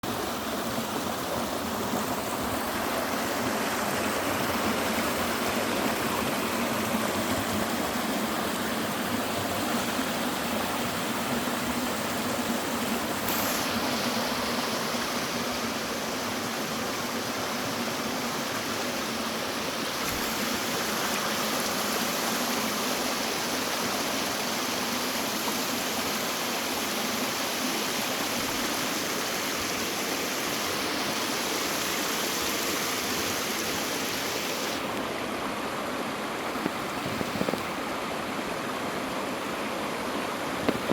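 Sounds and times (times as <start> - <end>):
stream water running: 0.0 - 40.9.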